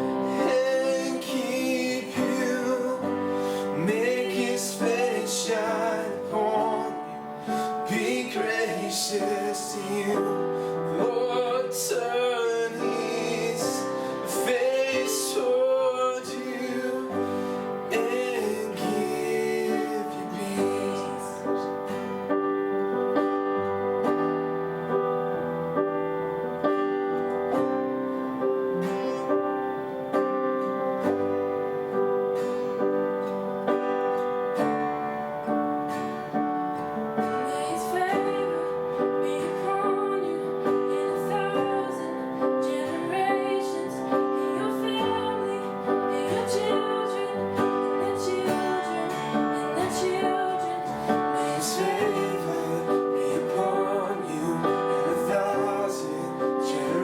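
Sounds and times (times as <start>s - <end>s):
slow worship music on piano: 0.0s - 57.0s.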